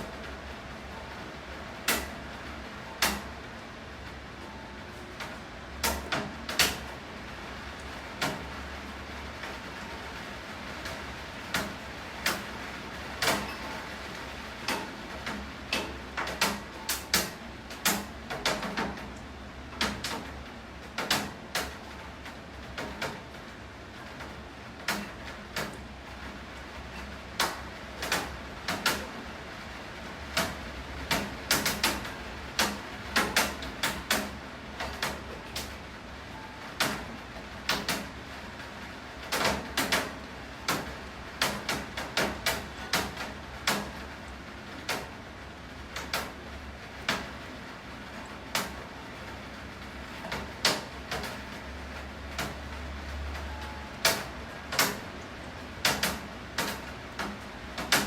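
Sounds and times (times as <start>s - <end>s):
rainfall hiss: 0.0s - 58.0s.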